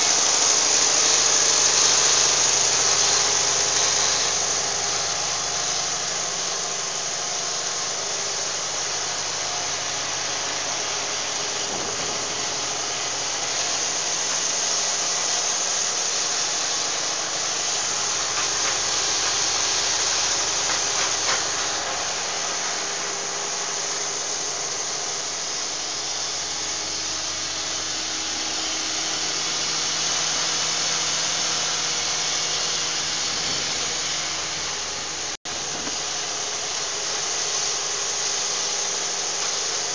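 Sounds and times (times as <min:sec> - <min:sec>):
machinery mechanical hum and hiss: 0:00.0 - 0:39.9.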